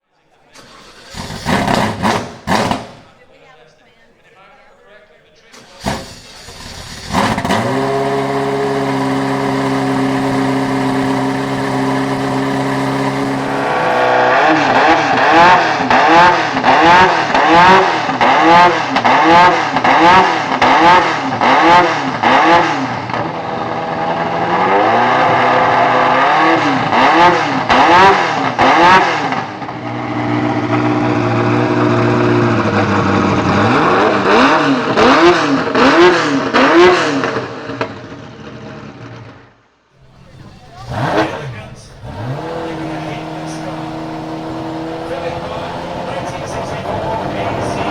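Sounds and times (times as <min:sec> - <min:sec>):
car engine idling and revving: 0:00.6 - 0:03.1, 0:05.6 - 0:39.4, 0:40.0 - 0:47.9.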